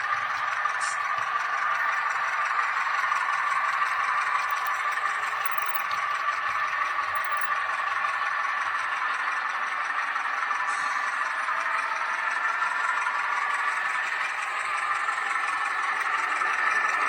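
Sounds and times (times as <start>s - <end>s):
model train motor whine: 0.0s - 17.0s
wheels running on track: 0.0s - 17.0s.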